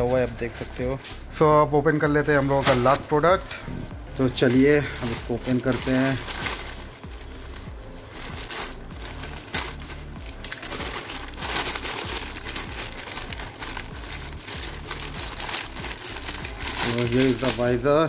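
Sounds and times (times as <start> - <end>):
plastic crinkling and rustling: 2.3 - 18.0.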